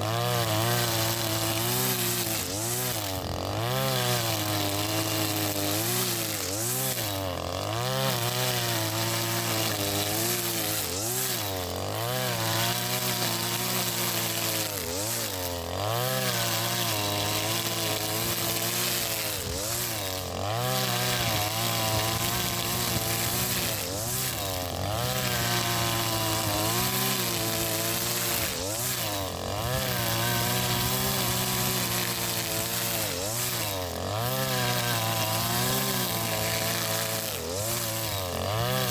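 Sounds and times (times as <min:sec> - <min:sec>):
brush cutter running: 0:00.0 - 0:38.9.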